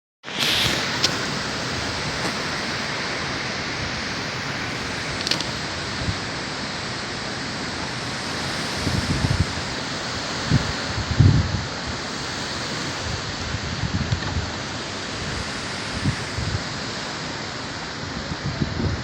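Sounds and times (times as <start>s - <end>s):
heavy rain hiss: 0.2s - 19.0s.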